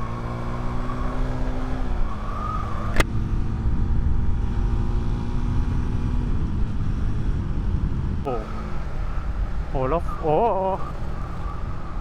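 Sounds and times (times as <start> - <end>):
vehicle engine running: 0.0 - 12.0
wind and road rumble: 0.0 - 12.0.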